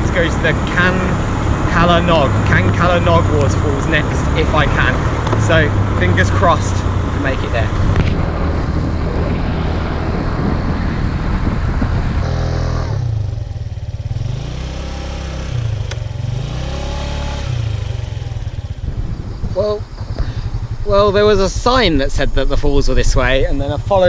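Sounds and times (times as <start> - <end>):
moped engine running: 0.0 - 24.0
wind rushing over microphone: 0.0 - 24.0.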